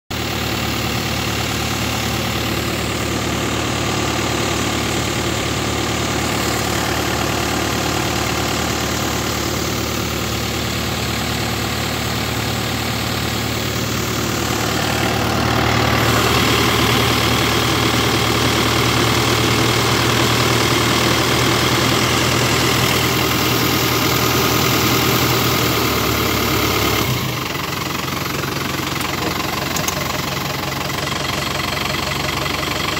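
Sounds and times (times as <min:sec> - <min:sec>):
tractor engine running: 0:00.1 - 0:32.9.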